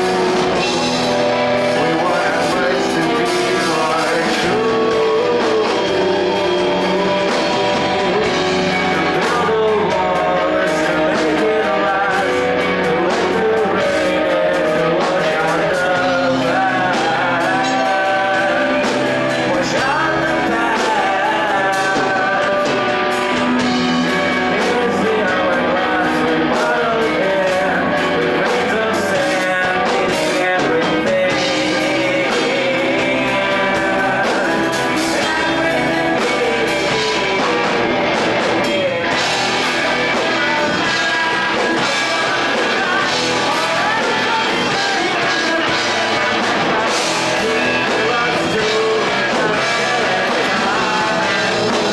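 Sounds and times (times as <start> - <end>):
person singing: 0.0 - 51.9
rock band playing live: 0.0 - 51.9.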